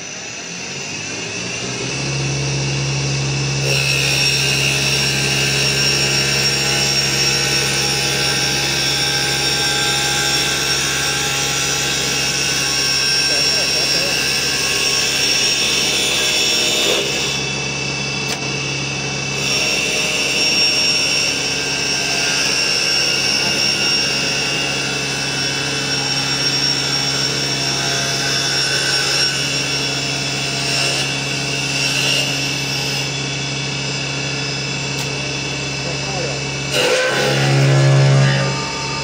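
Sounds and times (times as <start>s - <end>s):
wood lathe running: 1.4s - 39.0s.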